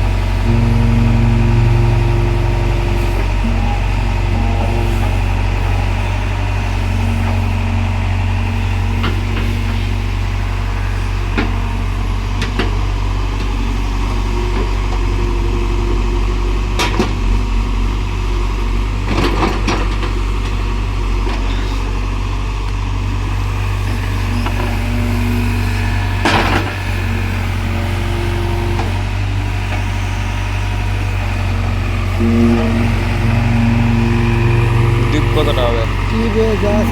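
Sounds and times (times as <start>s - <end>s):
excavator diesel engine humming: 0.0s - 36.9s.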